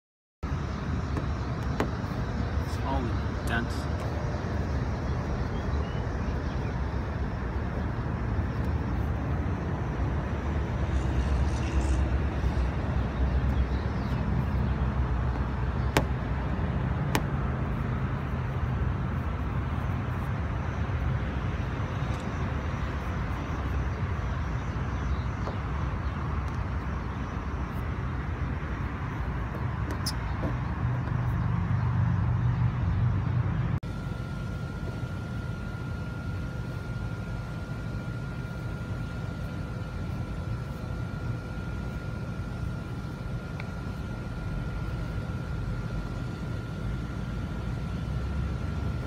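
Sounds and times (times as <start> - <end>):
low outdoor rumble: 0.4 - 49.0.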